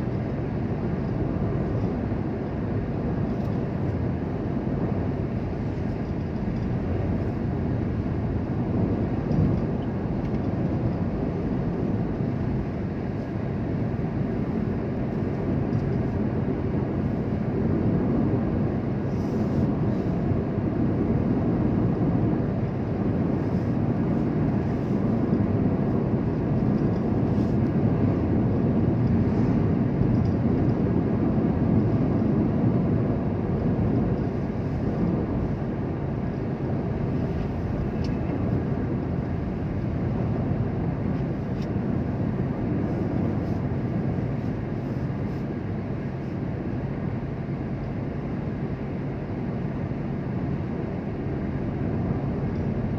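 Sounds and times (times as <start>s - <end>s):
moving vehicle rumble: 0.0s - 52.9s.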